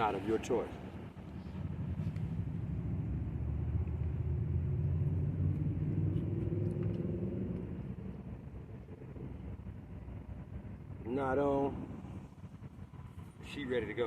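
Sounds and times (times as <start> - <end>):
passing vehicle engine rumble: 0.0 - 14.0.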